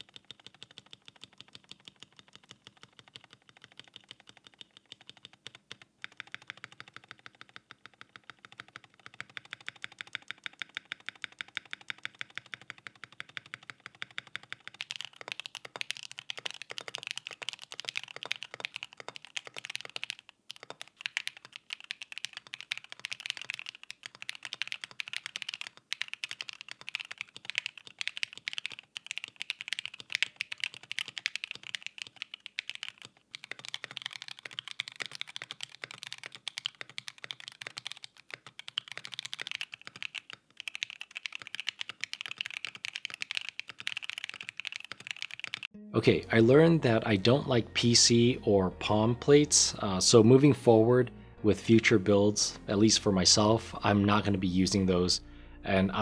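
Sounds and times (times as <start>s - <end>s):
mechanical keyboard typing: 0.0s - 45.8s.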